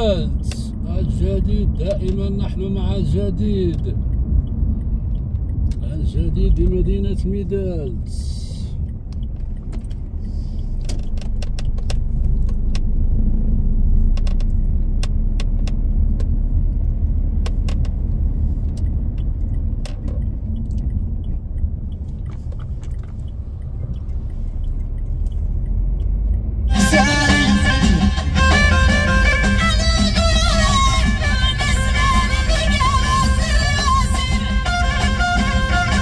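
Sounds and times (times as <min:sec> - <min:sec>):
car engine and tyres rumbling: 0:00.0 - 0:36.0.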